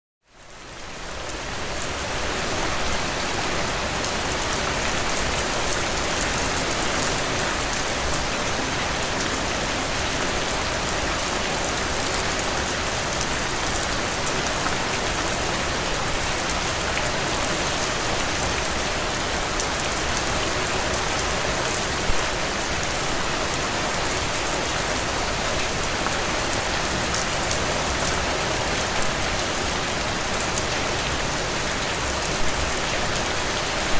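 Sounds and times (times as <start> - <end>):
heavy rain pattering: 0.6 - 33.9.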